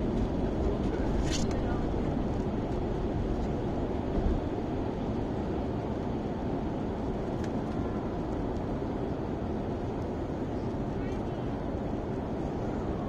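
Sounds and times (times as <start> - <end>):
airplane cabin engine and airflow noise: 0.0 - 13.0.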